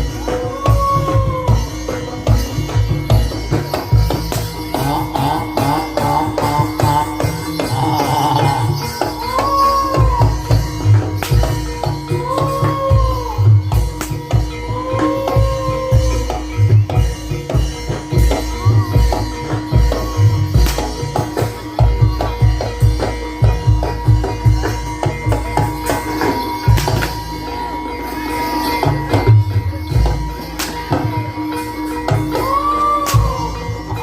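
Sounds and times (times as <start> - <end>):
gamelan music: 0.0 - 34.0
kendang drum rhythm: 0.0 - 34.0.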